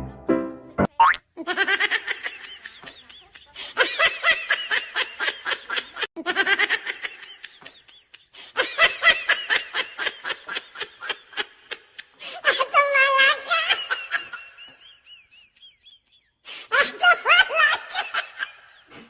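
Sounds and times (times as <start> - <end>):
high-pitched laughter: 1.0 - 18.9.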